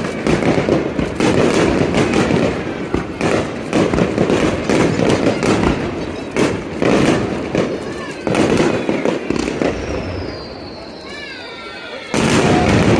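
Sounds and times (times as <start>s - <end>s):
fireworks bangs and crackling: 0.0s - 12.9s.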